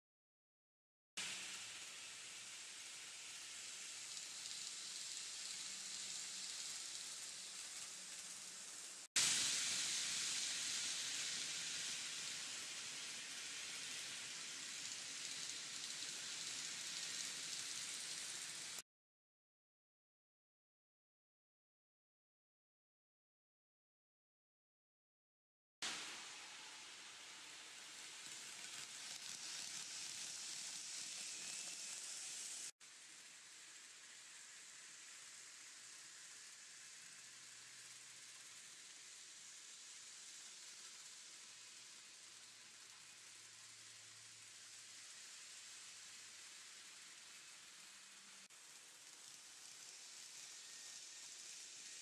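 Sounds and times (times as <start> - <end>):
model trains running on track: 1.2 - 18.8, 25.9 - 52.0.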